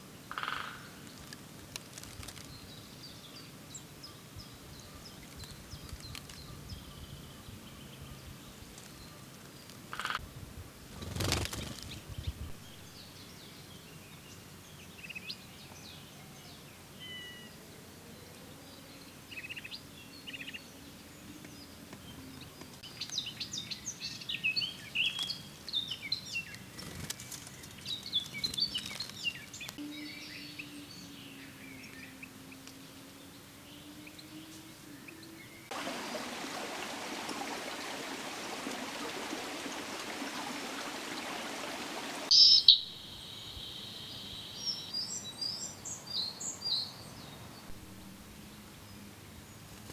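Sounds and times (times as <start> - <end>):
faint outdoor background noise: 0.0 - 49.9
songbirds chirping: 0.0 - 49.9.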